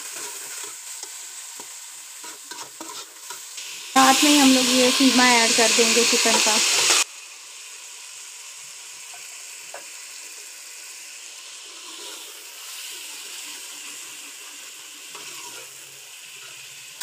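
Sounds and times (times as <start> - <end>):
meat and onions sizzling in oil: 0.0 - 17.0.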